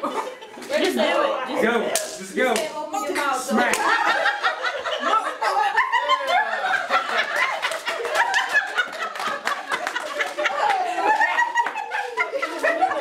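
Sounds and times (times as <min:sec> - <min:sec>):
people laughing: 0:00.0 - 0:01.3, 0:03.5 - 0:13.0.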